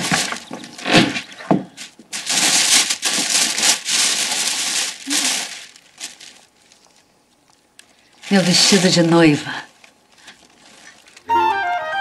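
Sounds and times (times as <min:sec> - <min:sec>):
tissue paper rustling: 0:00.0 - 0:07.0, 0:08.2 - 0:11.3.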